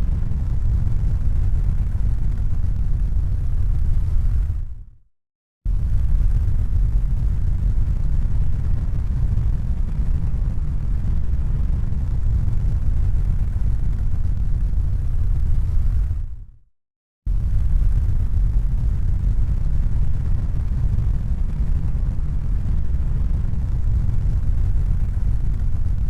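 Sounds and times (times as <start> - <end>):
steady low rumble: 0.0 - 5.0, 5.7 - 16.5, 17.3 - 26.0.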